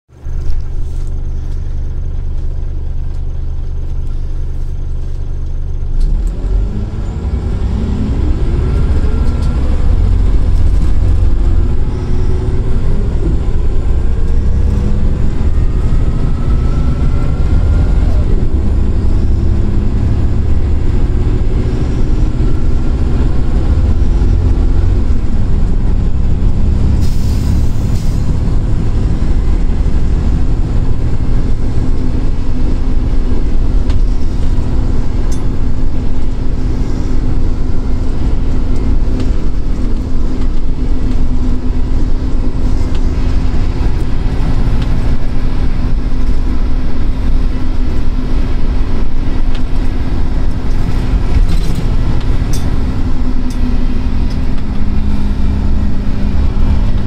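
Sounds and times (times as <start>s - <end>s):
bus diesel engine accelerating: 0.1s - 57.0s.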